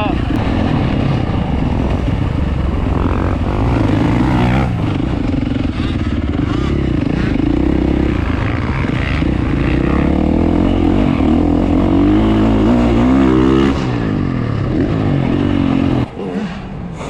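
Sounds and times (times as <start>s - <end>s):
dirt bike engine revving: 0.0s - 16.2s.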